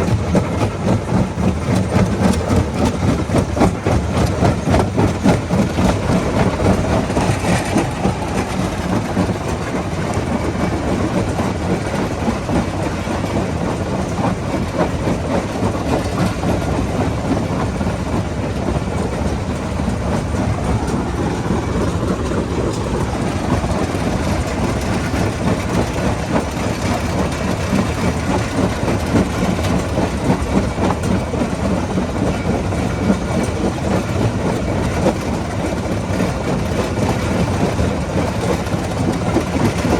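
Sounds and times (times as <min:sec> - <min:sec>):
heavy engine drone: 0:00.0 - 0:39.9.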